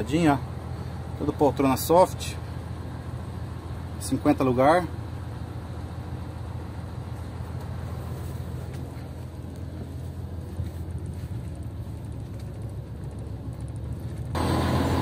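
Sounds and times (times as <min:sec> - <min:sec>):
coach diesel engine idling: 0:00.0 - 0:15.0.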